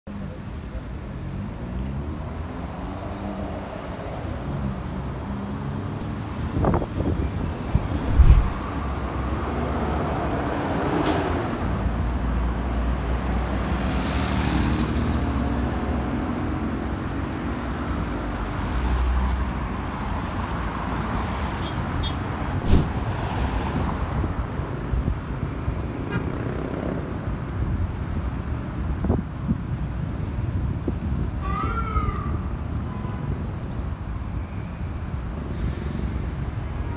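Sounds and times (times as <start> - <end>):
traffic rumble: 0.1 - 36.9.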